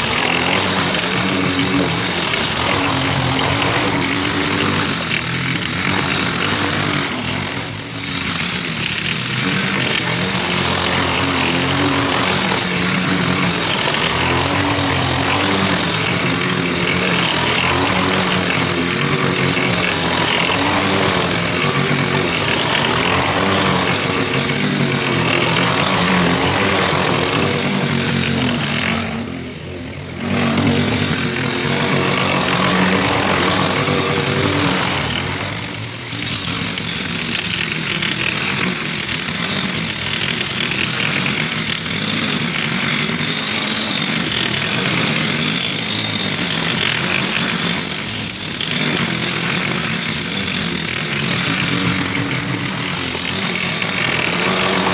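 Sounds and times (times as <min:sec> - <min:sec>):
lawn mower engine cutting grass: 0:00.0 - 0:54.9.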